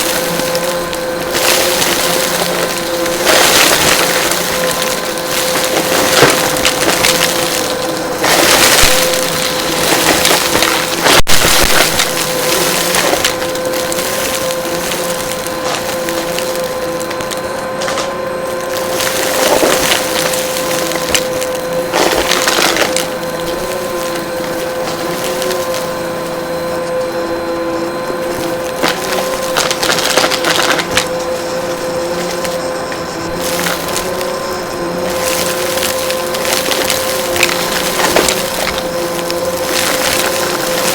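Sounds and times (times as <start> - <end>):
debris crackling in vacuum: 0.0 - 40.9
vacuum cleaner motor whine: 0.0 - 40.9.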